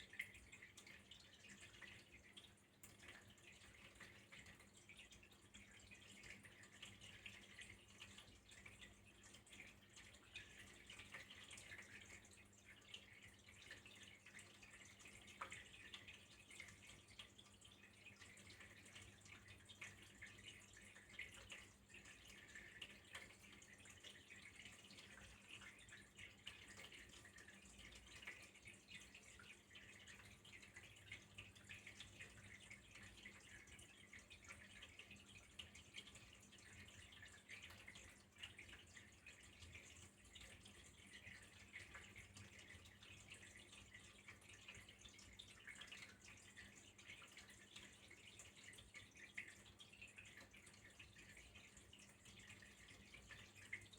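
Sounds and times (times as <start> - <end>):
small rapid drips and splashes: 0.0 - 53.9
trickle of flowing water: 0.0 - 53.9.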